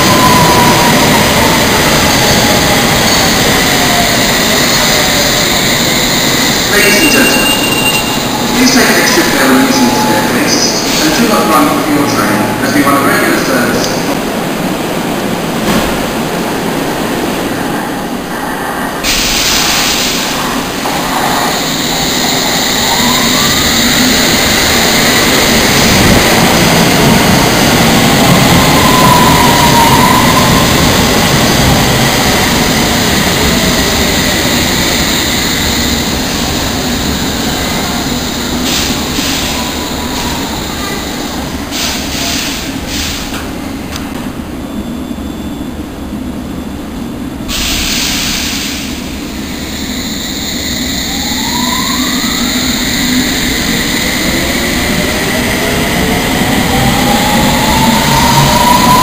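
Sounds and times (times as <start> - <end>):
train wheels rumbling on rail: 0.0 - 45.6, 46.3 - 59.0.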